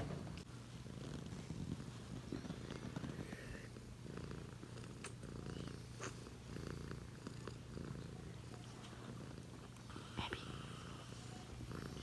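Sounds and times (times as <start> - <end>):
cat purring: 0.2 - 12.0.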